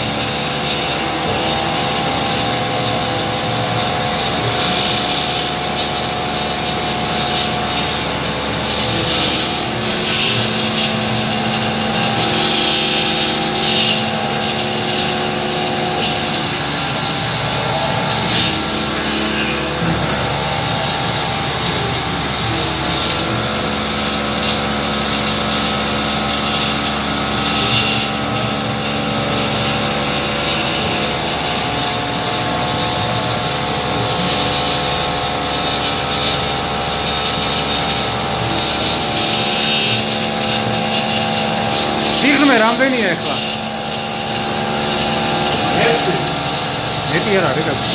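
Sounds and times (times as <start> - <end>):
machine whining tones: 0.0 - 47.9
milling machine cutting metal: 0.0 - 47.9.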